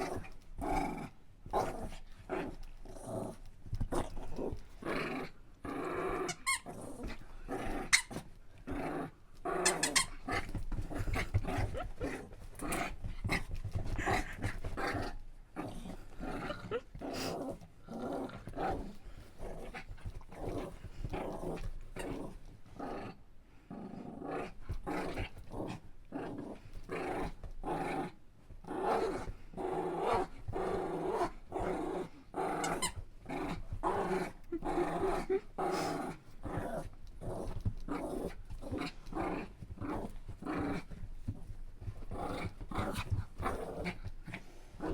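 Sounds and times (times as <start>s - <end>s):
dog growling in play: 0.0s - 44.9s.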